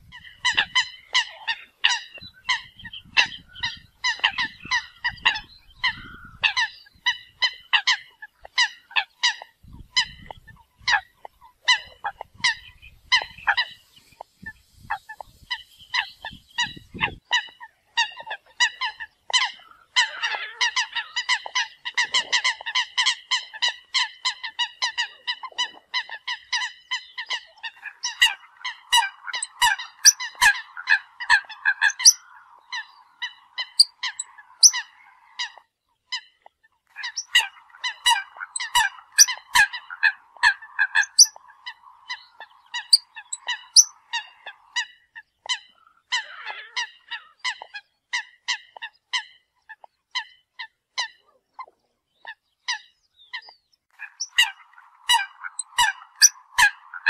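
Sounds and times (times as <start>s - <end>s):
coots calling: 0.0s - 57.0s.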